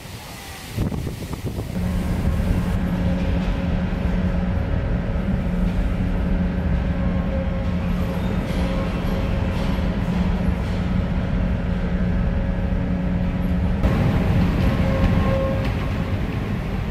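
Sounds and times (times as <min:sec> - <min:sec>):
ship machinery drone: 0:01.6 - 0:16.9
hydraulic actuators humming and whining: 0:01.8 - 0:16.9.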